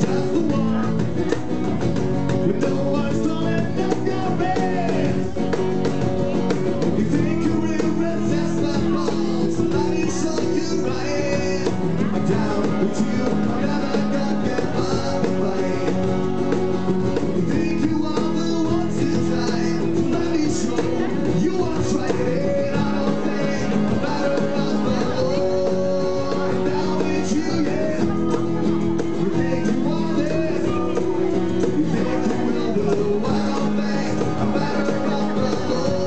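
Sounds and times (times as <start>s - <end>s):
acoustic guitars strummed: 0.0s - 36.0s
cajon beaten: 0.0s - 36.0s.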